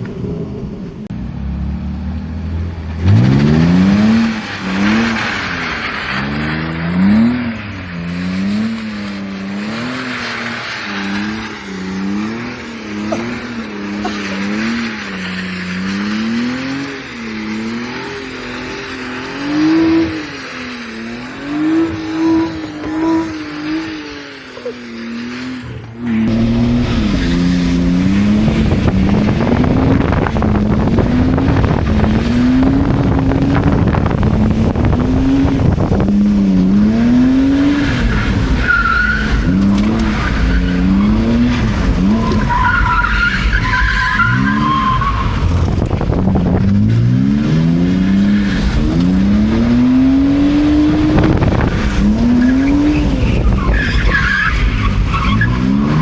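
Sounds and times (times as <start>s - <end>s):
car engine revving: 0.0s - 56.0s
tire squeals: 0.0s - 56.0s.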